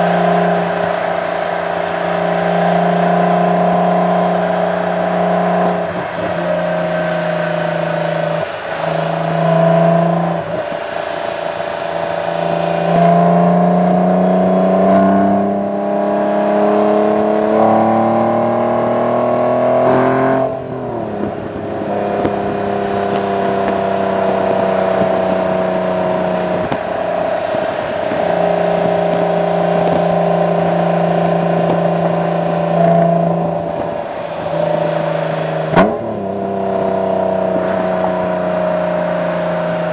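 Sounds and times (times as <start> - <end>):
car engine through exhaust accelerating: 0.0 - 39.9.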